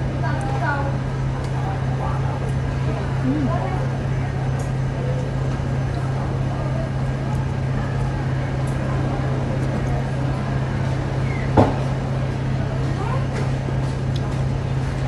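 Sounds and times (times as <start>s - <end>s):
faint voices: 0.0s - 15.0s
restaurant background hum: 0.0s - 15.0s.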